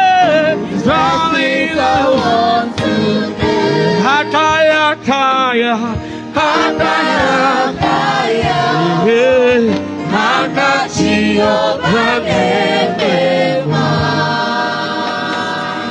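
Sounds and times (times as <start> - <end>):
choir singing gospel song: 0.0 - 15.9.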